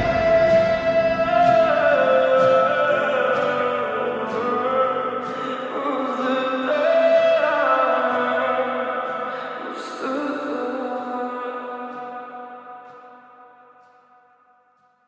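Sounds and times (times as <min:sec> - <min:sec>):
pop song with held sung note: 0:00.0 - 0:13.4.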